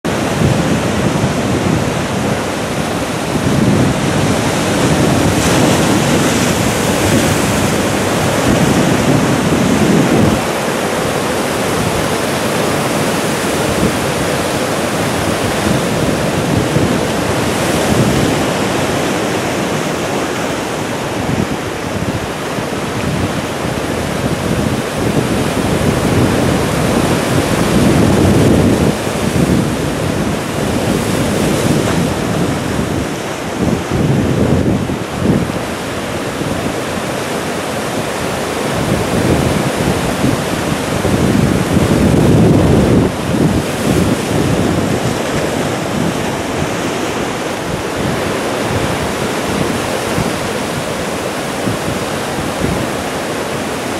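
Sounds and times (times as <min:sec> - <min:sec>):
surf washing over rocks: 0:00.0 - 0:53.9.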